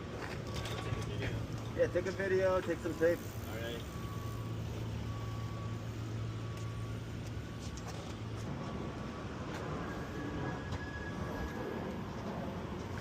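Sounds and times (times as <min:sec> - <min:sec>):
low engine hum: 0:00.0 - 0:13.0
street traffic noise: 0:00.0 - 0:13.0.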